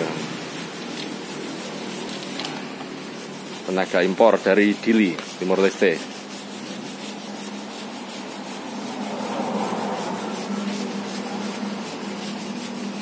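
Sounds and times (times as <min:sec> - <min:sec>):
fabric rubbing and scraping: 0:00.0 - 0:13.0.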